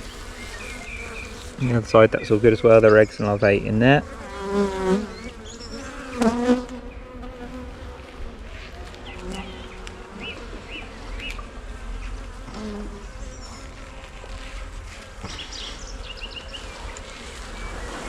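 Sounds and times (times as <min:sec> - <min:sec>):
bees humming: 0:00.0 - 0:18.0.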